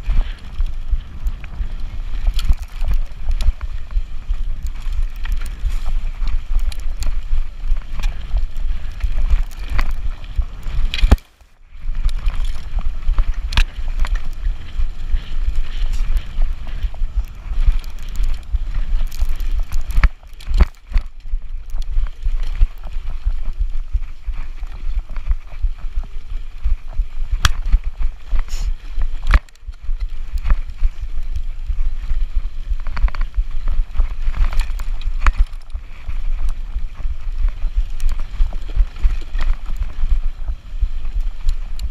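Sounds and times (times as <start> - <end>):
bike rattling on bumpy trail: 0.0 - 41.9
wind rumbling on microphone: 0.0 - 41.9.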